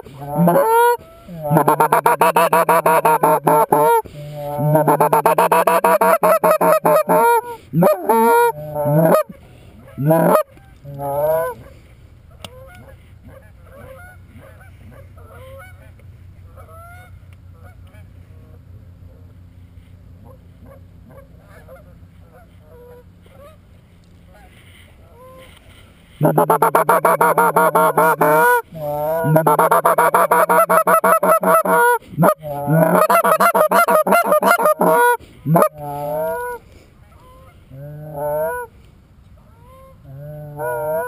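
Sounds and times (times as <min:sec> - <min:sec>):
distant geese honking: 0:00.0 - 0:18.6, 0:20.2 - 0:38.8, 0:39.4 - 0:41.0
geese honking and clucking: 0:00.0 - 0:18.6, 0:20.2 - 0:23.7, 0:24.3 - 0:38.8, 0:39.4 - 0:41.0.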